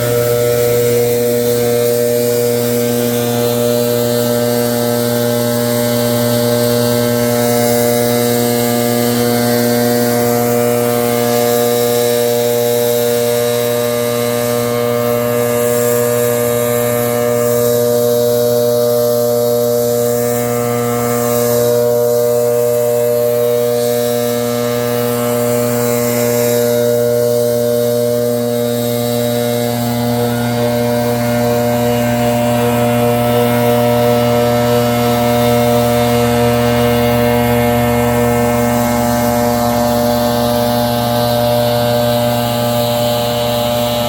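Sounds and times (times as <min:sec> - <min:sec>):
leaf blower running: 0:00.0 - 0:44.0.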